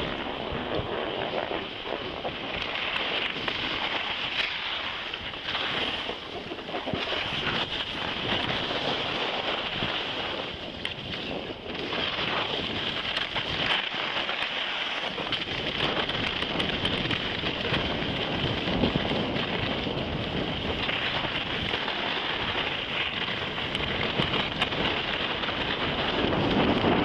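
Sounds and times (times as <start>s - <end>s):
skis scraping over snow: 0.0s - 27.0s
wind noise on microphone: 0.0s - 27.0s.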